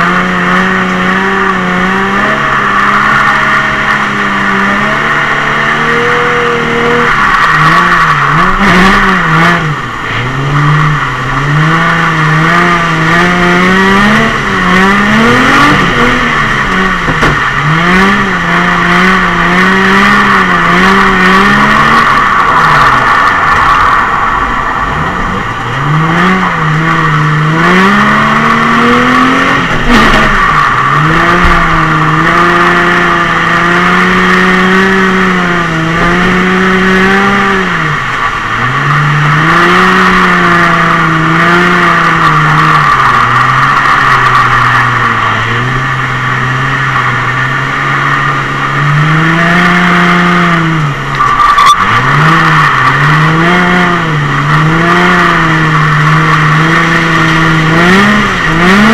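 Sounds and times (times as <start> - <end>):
car engine revving: 0.0 - 58.9
tyres squealing on wet tarmac: 1.2 - 34.0, 36.8 - 49.6, 50.8 - 58.9.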